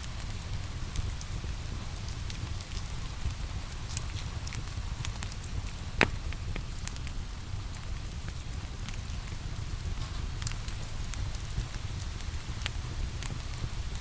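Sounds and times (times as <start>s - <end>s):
rain pattering: 0.0s - 14.0s
wood fire crackling: 0.3s - 14.0s.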